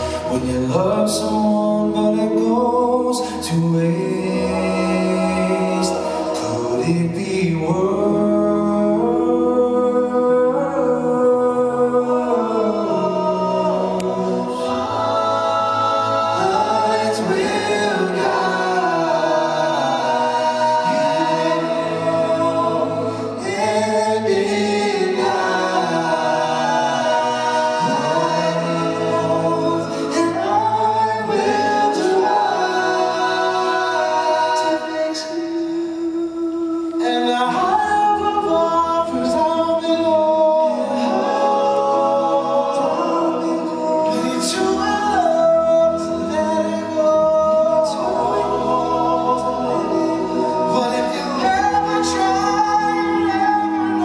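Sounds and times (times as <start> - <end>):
male a cappella group singing: 0.0 - 54.0.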